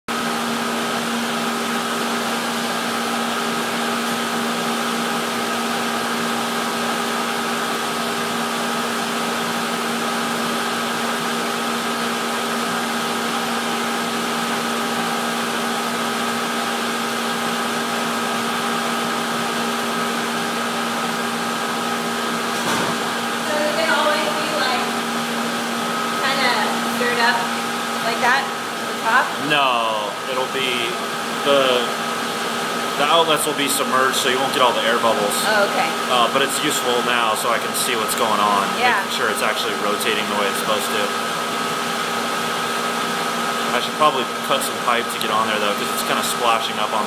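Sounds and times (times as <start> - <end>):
steady mechanical hum: 0.1 - 47.0.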